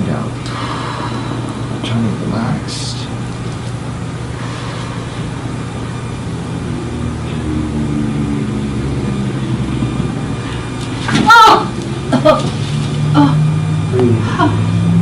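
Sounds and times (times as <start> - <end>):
mechanical hum with engine drone: 0.0 - 15.0.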